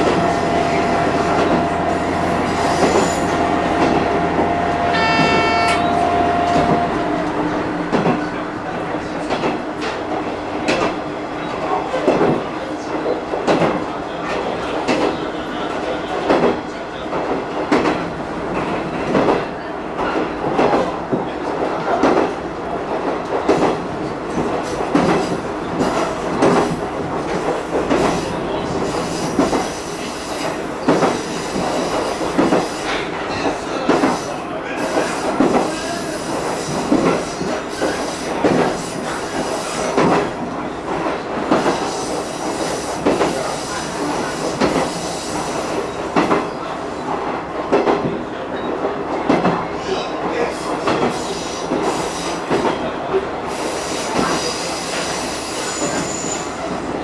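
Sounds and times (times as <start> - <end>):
railcar running rumble: 0.0 - 57.0.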